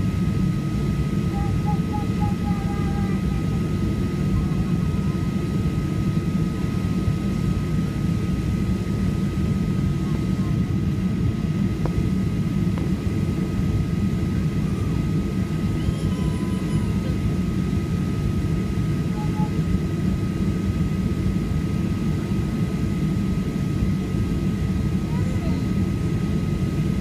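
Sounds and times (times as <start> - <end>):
airplane cabin engine rumble: 0.0 - 27.0
thin steady whine: 0.0 - 27.0.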